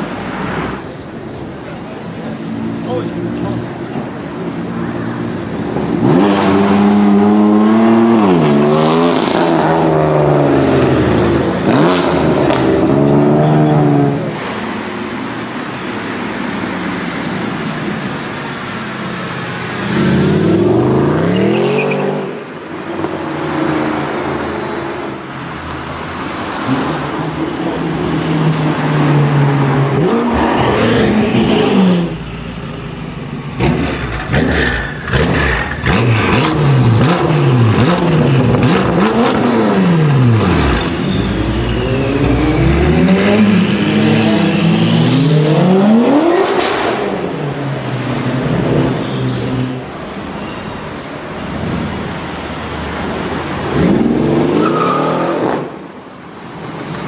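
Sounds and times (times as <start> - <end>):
car engines accelerating hard: 0.0 - 25.2, 25.9 - 49.1, 51.0 - 57.0.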